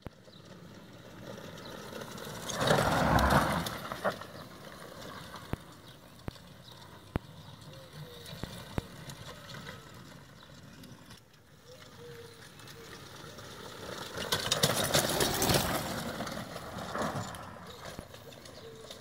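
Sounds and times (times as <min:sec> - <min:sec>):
pedal kart rolling on grass: 0:00.0 - 0:19.0.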